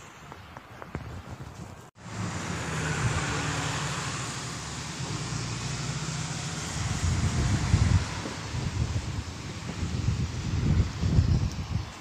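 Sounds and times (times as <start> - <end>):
vehicle engine hum: 2.0 - 12.0.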